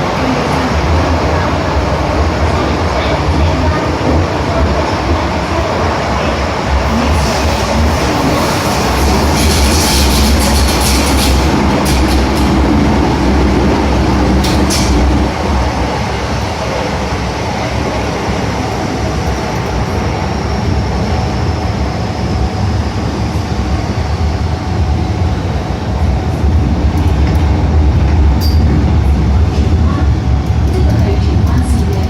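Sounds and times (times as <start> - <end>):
electric train rumbling on track: 0.0 - 32.0.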